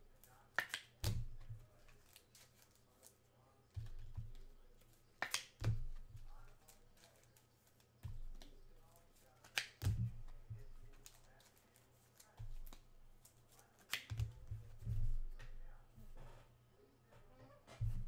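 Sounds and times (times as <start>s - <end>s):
cards clicking on table: 0.2s - 14.7s.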